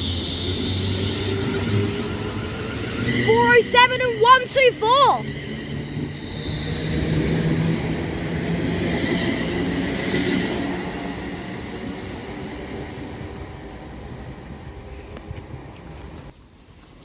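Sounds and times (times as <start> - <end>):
electric train whine: 0.0 - 16.4
train wheels rumbling on track: 0.0 - 16.7.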